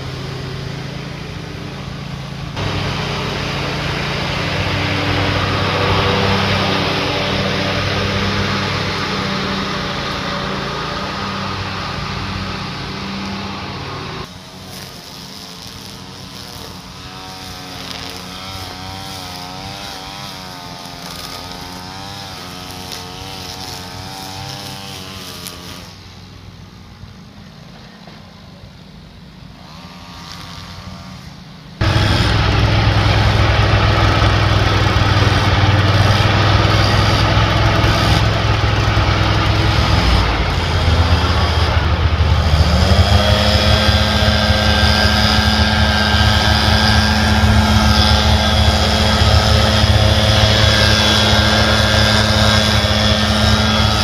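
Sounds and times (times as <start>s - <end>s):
leaf blower running loud: 0.0s - 26.4s, 29.4s - 54.0s
small engine running at a distance: 0.0s - 54.0s.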